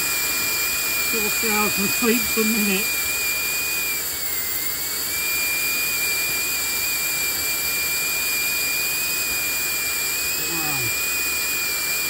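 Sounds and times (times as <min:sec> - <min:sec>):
blower rushing air with whine: 0:00.0 - 0:12.0.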